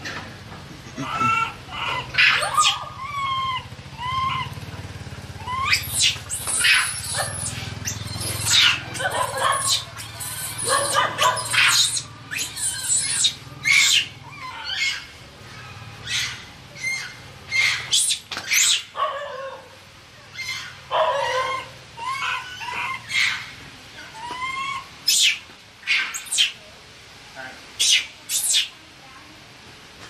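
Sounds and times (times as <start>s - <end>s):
baby monkey screaming: 1.0s - 4.6s, 5.3s - 19.6s, 20.3s - 26.6s, 27.8s - 28.7s.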